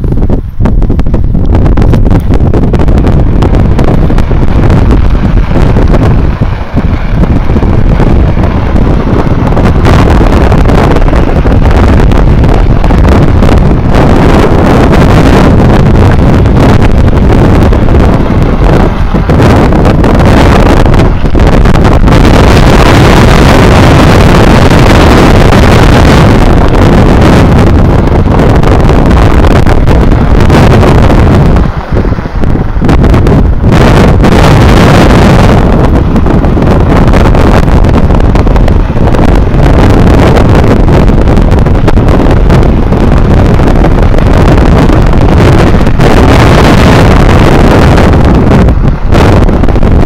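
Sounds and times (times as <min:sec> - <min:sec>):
strong wind buffeting microphone: 0:00.0 - 0:50.0.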